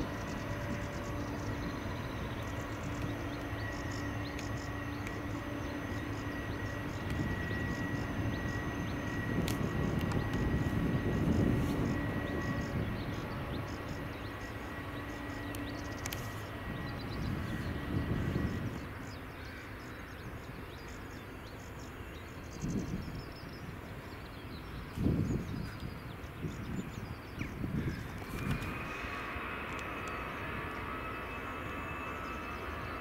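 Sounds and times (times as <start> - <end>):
airliner engines with high whine: 0.0 - 33.0.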